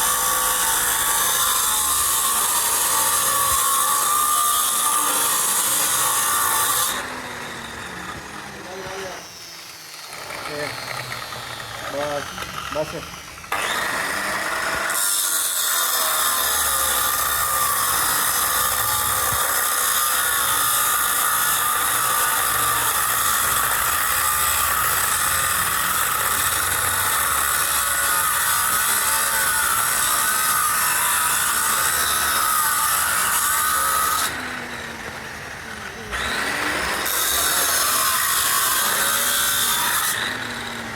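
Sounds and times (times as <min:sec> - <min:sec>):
power tool grinding metal: 0:00.0 - 0:40.9.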